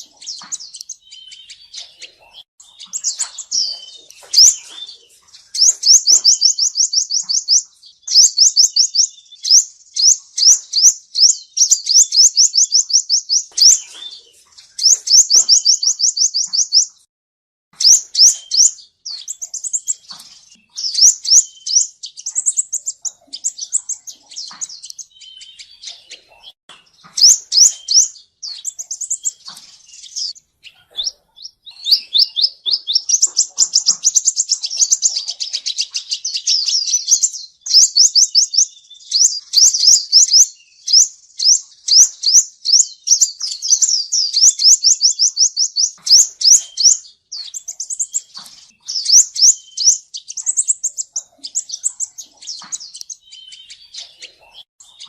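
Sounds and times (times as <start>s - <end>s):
sunbird singing high trills: 0.0s - 17.1s, 17.8s - 55.0s.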